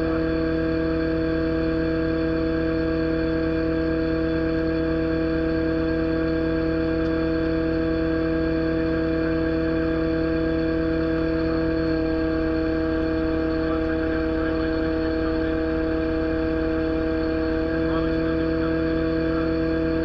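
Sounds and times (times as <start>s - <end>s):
constant whine: 0.0s - 20.0s.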